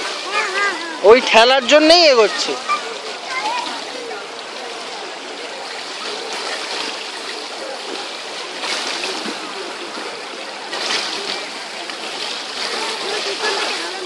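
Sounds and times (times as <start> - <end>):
faint voices: 0.0 - 14.0
water splashing from kicking legs: 2.4 - 14.0.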